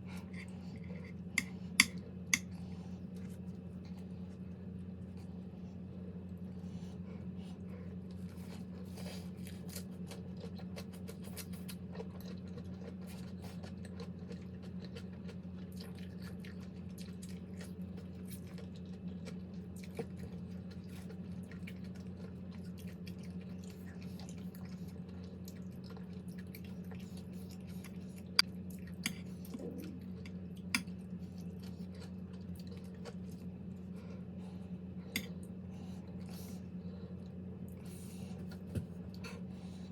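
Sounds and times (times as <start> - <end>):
steady low hum: 0.0 - 39.9
chewing and wet mouth sounds: 6.2 - 39.9.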